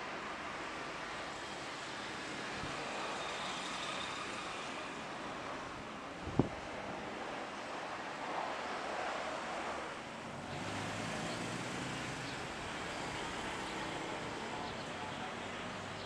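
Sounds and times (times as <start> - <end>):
jet engines at takeoff power: 0.1 - 14.5.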